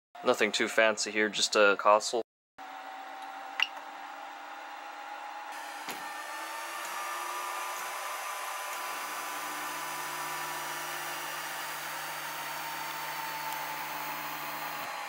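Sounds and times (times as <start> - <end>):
cooling fans whirring: 2.7 - 15.0.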